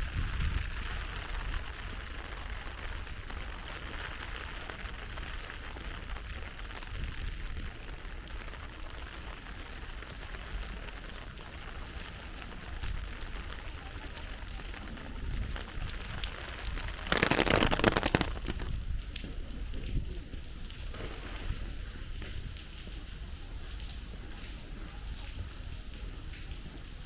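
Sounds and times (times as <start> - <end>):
heavy rain pattering: 0.0 - 27.0.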